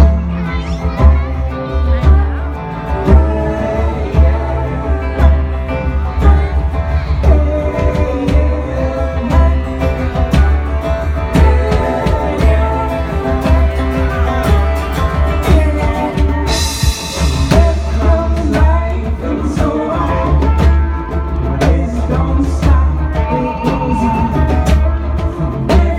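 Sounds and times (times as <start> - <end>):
folk band with singing and guitar: 0.0 - 25.9
heavy low bass: 0.0 - 25.9.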